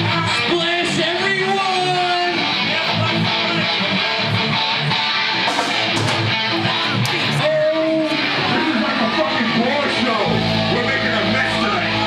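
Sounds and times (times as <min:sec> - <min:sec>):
drums: 0:00.0 - 0:12.0
electric guitar: 0:00.0 - 0:12.0.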